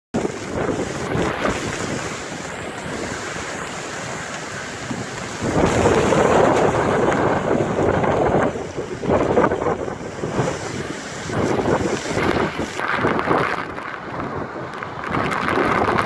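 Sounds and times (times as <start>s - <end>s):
driving rain: 0.1s - 16.0s
hurricane wind: 0.1s - 16.0s
wind noise on microphone: 0.1s - 16.0s.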